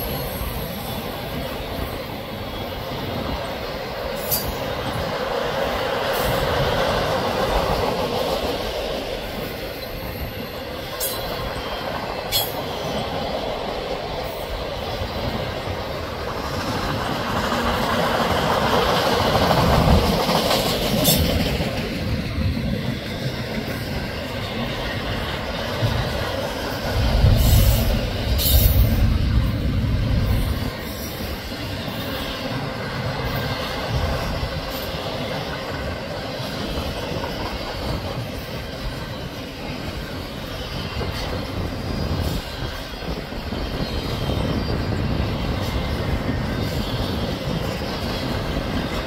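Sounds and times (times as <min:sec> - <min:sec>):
steel wheels rumbling on rail: 0:00.0 - 0:49.0.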